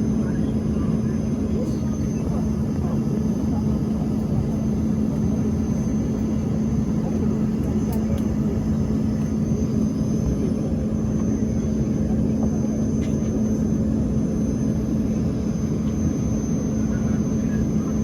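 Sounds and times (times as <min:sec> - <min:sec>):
airliner cabin engine rumble: 0:00.0 - 0:18.0
faint high whine: 0:00.0 - 0:18.0.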